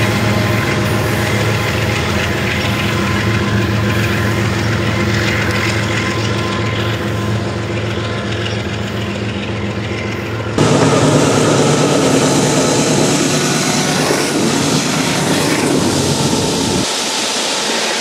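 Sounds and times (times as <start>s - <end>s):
diesel locomotive engine drone: 0.0s - 18.0s
wheel and rail noise: 0.0s - 18.0s.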